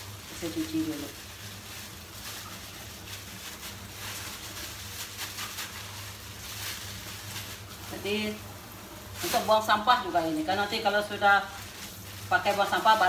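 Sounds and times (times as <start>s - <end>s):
plastic bag splashing and rustling: 0.0s - 13.0s.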